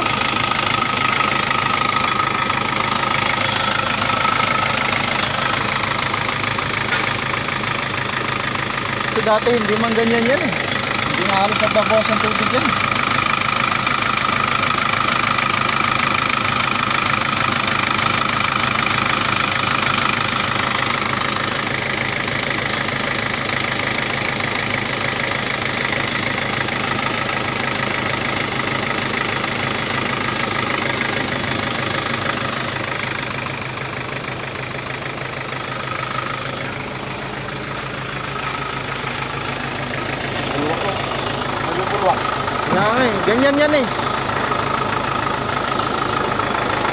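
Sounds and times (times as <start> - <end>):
vehicle engine idling: 0.0 - 46.9.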